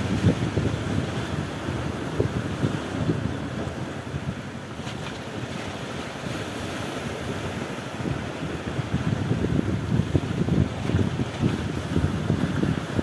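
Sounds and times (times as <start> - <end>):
small waves breaking: 0.0 - 13.0
wind buffeting microphone: 0.0 - 13.0.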